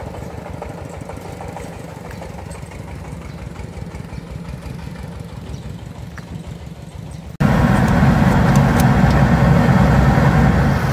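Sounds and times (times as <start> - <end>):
distant diesel engine: 0.0 - 10.9
rice milling machine rumbling: 0.0 - 10.9.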